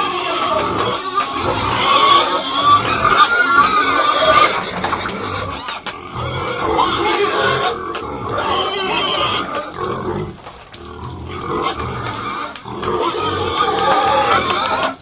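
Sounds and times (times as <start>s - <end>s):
pigs calling: 0.0s - 15.0s.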